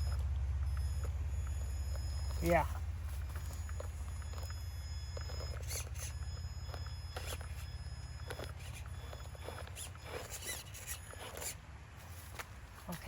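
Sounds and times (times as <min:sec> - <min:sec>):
short squeaks and clicks: 0:00.0 - 0:12.6
electric motor hum and whine: 0:00.0 - 0:13.0.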